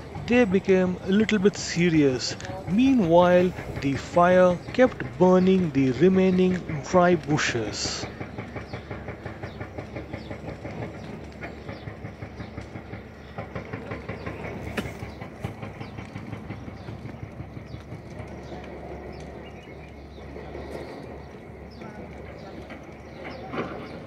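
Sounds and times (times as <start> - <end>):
burning bushes crackling and popping: 0.0 - 24.0
fire low rumble: 0.0 - 24.0.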